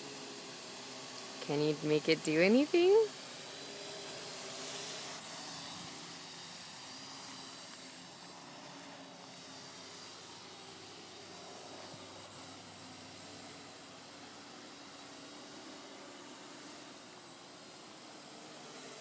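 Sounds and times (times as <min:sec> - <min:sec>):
quadcopter whirring hum: 0:00.0 - 0:19.0.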